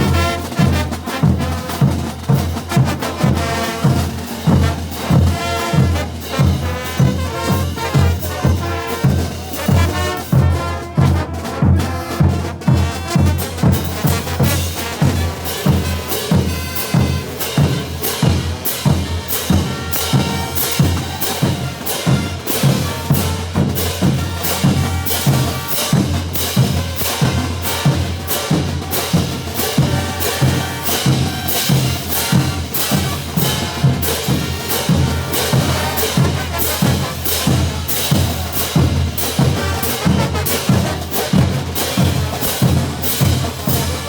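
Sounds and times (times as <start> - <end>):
brass band playing: 0.0 - 44.0
drums and cymbals beat: 0.0 - 44.0
sustained low brass: 0.0 - 44.0.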